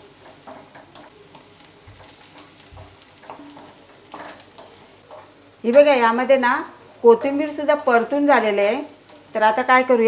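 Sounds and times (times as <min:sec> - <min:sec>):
onion frying in oil: 0:00.0 - 0:10.0.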